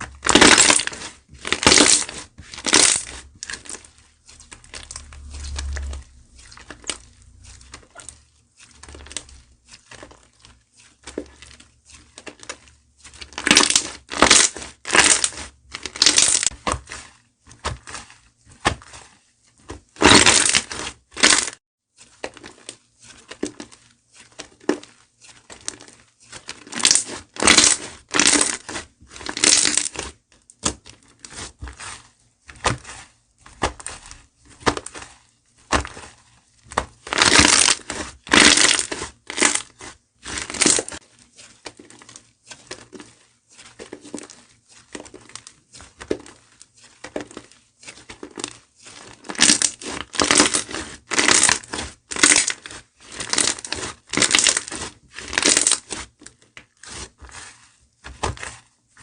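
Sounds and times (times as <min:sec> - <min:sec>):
slime crackling squishes: 0:00.0 - 0:59.0.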